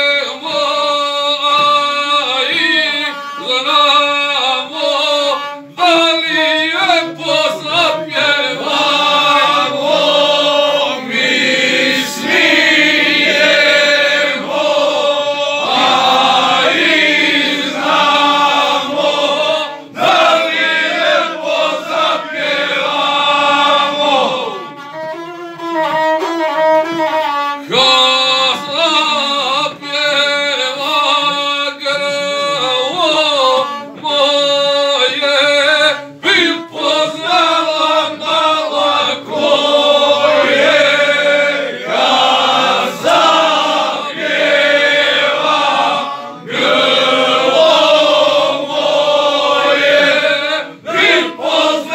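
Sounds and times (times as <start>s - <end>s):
man singing: 0.0s - 24.9s, 27.6s - 51.9s
bowed folk fiddle: 0.0s - 47.1s.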